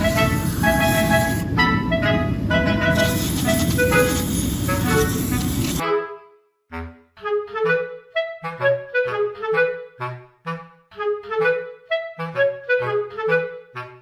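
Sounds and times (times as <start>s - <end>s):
clarinet-like woodwind melody: 0.0s - 14.0s.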